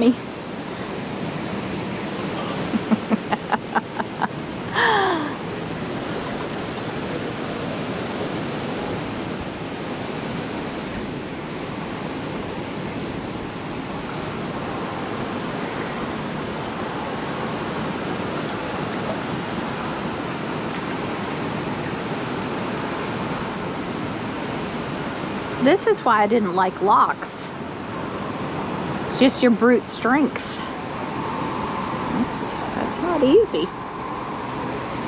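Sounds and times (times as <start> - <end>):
turbulent water rushing: 0.0 - 35.0.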